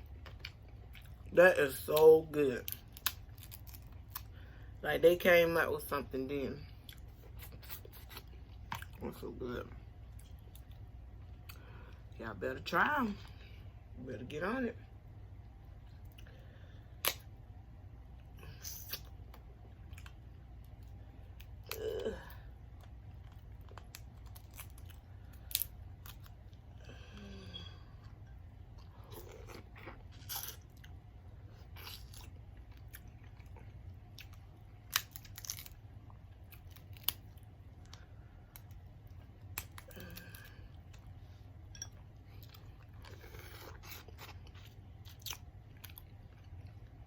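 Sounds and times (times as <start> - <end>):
chewing and crunching food: 0.0 - 5.3, 6.6 - 12.2, 14.8 - 17.4, 18.0 - 47.0.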